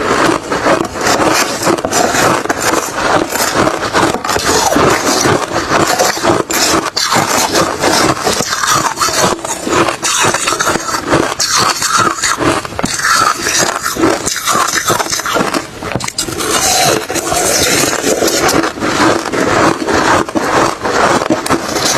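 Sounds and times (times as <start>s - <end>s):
ice being chewed: 0.0s - 21.9s.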